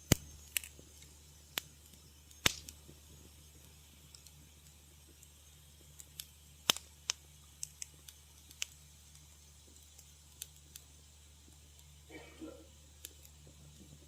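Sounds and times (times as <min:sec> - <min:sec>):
faint low hum: 0:00.0 - 0:14.0
wood fire crackling: 0:00.0 - 0:14.0.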